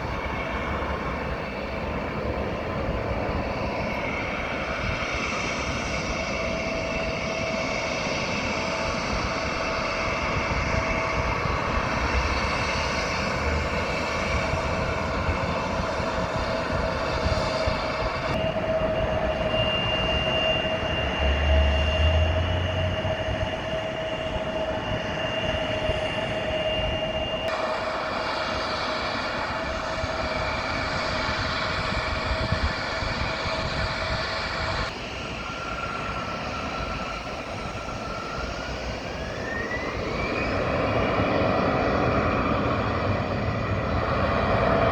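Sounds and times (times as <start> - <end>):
higher engine whine: 0.0 - 44.9
jet engines whining: 0.0 - 44.9.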